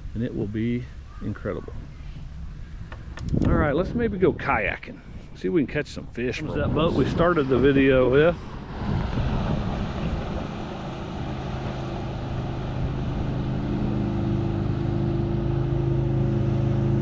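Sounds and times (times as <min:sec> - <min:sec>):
motorboat engine humming: 0:00.0 - 0:17.0.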